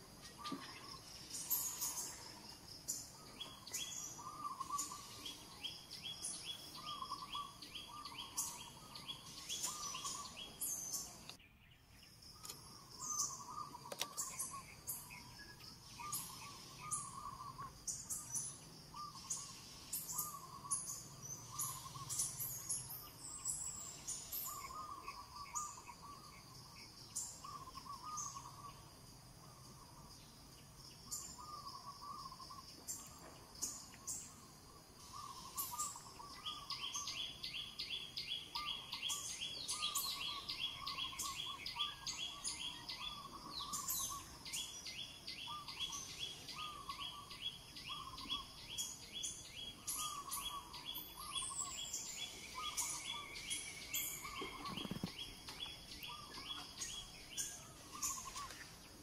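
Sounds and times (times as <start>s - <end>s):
birds calling and chirping: 0.0s - 59.0s.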